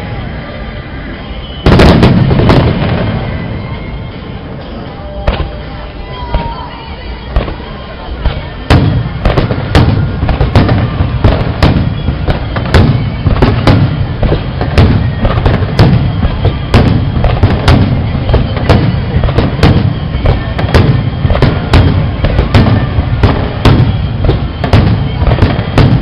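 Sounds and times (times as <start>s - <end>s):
fireworks bursting with bangs: 0.0s - 26.0s.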